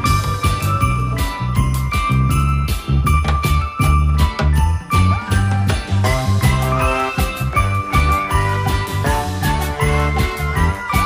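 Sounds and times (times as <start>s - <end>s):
bass line: 0.0s - 11.0s
jingling bells: 0.0s - 11.0s
steady beat: 0.0s - 11.0s.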